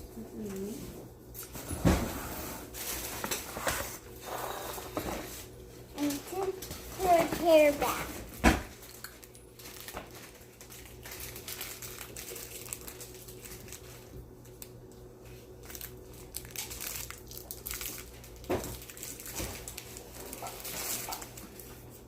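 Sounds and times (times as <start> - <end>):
low steady hum: 0.0 - 22.0
crinkling and rustling: 0.4 - 22.0.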